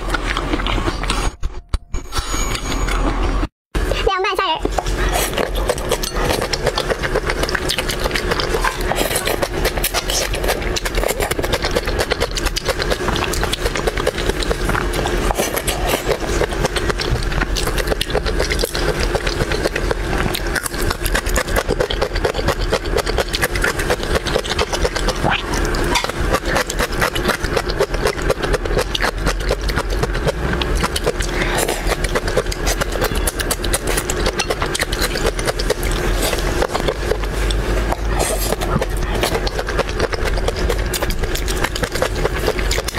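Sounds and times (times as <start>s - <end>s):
chewing: 0.0s - 1.4s, 4.7s - 42.9s
steady low hum: 0.0s - 42.9s.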